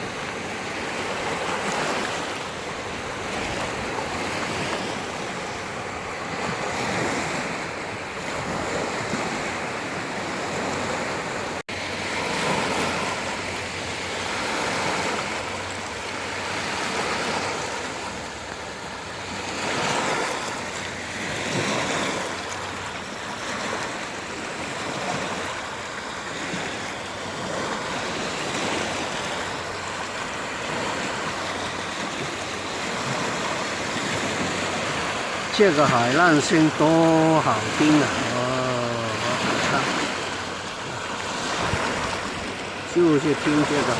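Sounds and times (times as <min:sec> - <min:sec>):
sea waves washing onto shore: 0:00.0 - 0:43.9
wind: 0:00.0 - 0:43.9.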